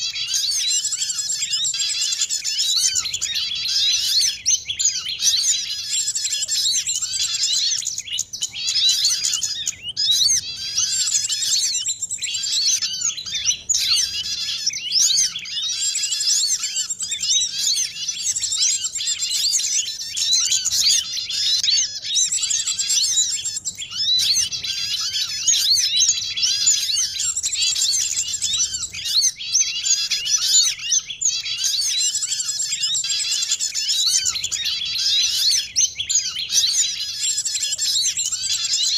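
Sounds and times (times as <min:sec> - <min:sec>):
chorus of songbirds chirping: 0:00.0 - 0:38.9.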